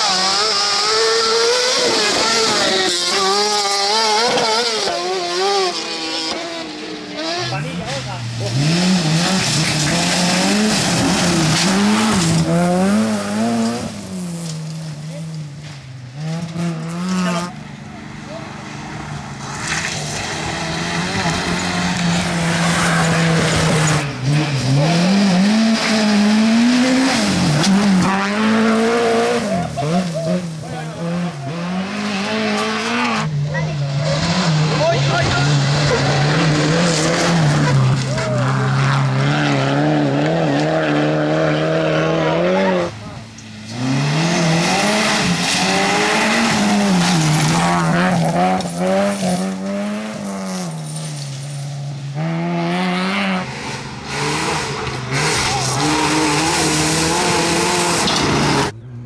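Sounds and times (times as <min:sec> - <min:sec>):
high-revving buggy engine: 0:00.0 - 0:59.0.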